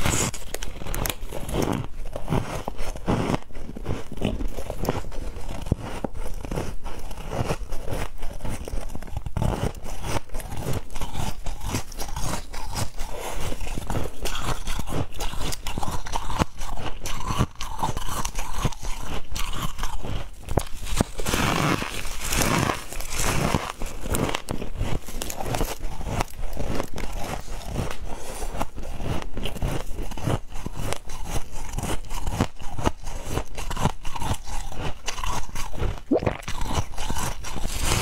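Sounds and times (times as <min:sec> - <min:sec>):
chewing crunchy frost: 0:00.0 - 0:38.0.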